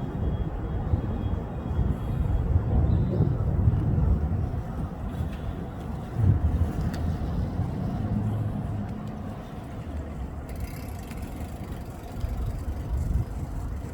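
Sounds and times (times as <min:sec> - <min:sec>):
faint engine hum: 0:00.0 - 0:13.9
road traffic rumble: 0:00.0 - 0:13.9.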